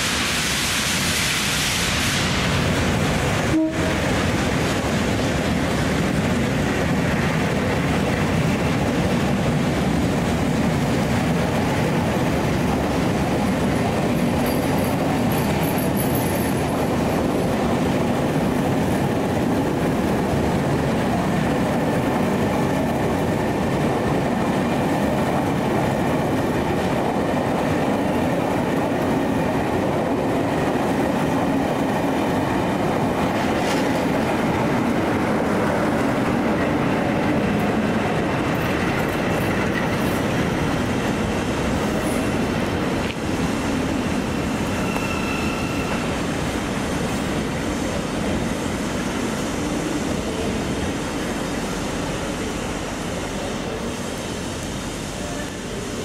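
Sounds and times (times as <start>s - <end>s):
train wheels rumbling on rails: 0.0s - 56.0s
clickety-clack over rail joints: 2.2s - 51.0s.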